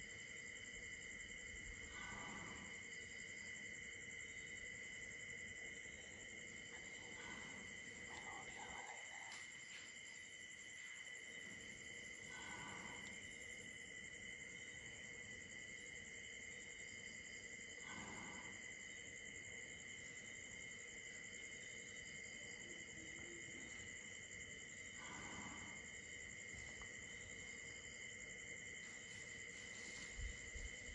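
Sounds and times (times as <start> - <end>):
crickets chirping: 0.0 - 30.9.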